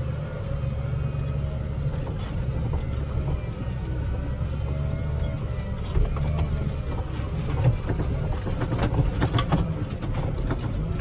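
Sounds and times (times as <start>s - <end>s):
diesel engine droning: 0.0s - 11.0s
faint engine whine: 0.0s - 11.0s.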